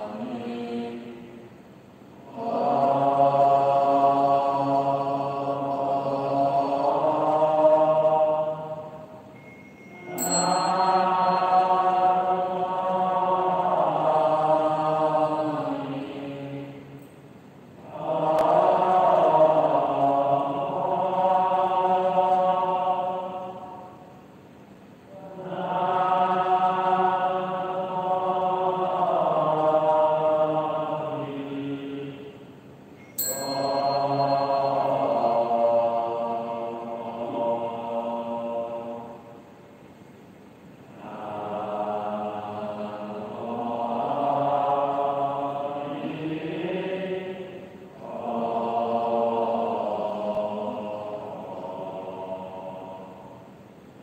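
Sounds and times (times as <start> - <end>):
slow liturgical chanting: 0.0 - 54.0.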